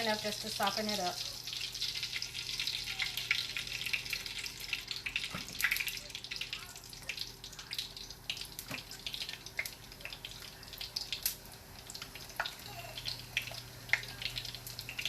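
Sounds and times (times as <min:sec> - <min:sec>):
oil sizzling with crackling pops: 0:00.0 - 0:15.0.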